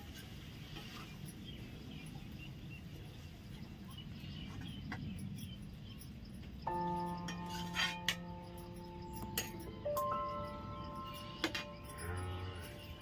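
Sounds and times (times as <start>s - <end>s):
low steady background noise: 0.0s - 13.0s
small birds chirping: 0.0s - 13.0s.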